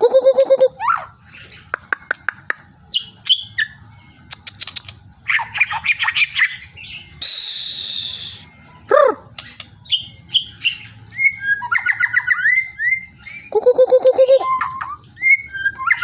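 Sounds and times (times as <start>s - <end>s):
bird singing varied song: 0.0s - 16.0s.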